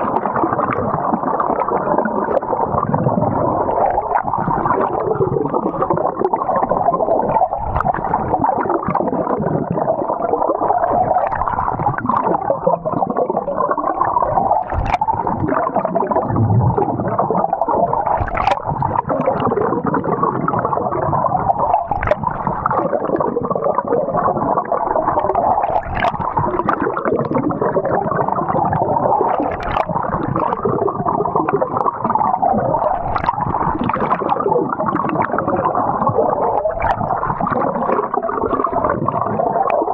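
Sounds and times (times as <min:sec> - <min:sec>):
muffled water gurgling and sloshing: 0:00.0 - 0:39.9.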